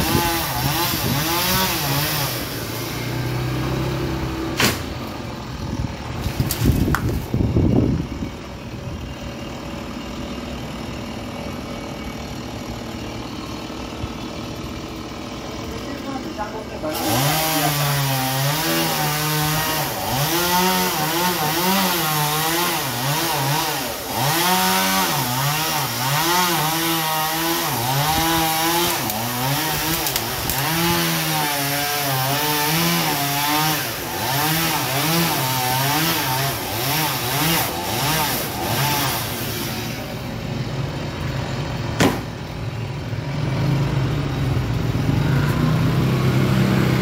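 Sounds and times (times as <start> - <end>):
chainsaw cutting wood: 0.0 - 8.1, 9.0 - 40.2.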